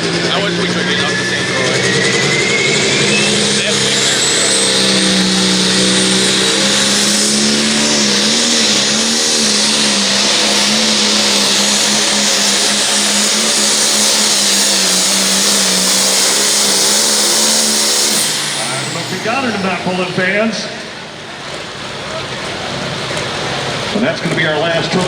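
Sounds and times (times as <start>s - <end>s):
tractor engine at high revs: 0.0s - 25.0s.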